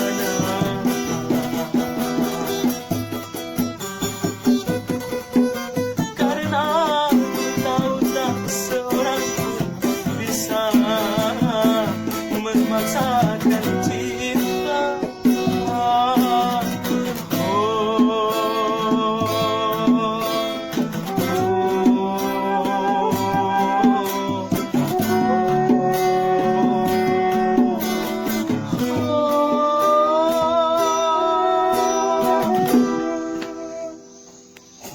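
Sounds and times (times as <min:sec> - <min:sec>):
plucked guitar: 0:00.0 - 0:34.9
rattling percussion: 0:00.0 - 0:34.9.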